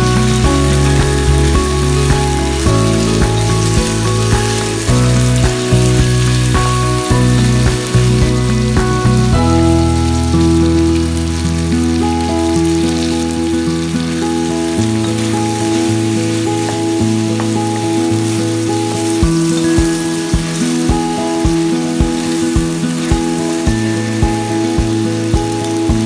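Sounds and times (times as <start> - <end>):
chicken sizzling in a wok: 0.0 - 26.0
instrumental background music: 0.0 - 26.0.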